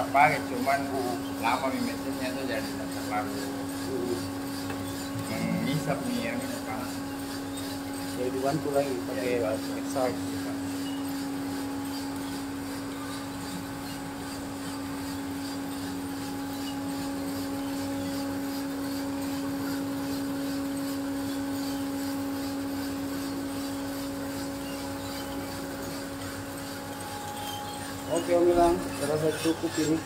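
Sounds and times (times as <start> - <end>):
coffee roaster fan humming: 0.0 - 30.0.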